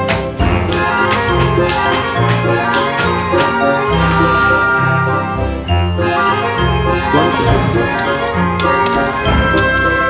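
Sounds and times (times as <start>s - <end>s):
sustained instrumental notes: 0.4s - 10.0s.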